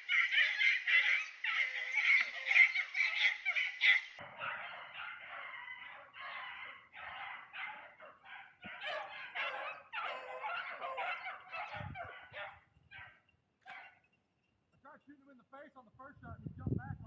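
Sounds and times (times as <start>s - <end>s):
hounds baying: 0.0s - 14.2s.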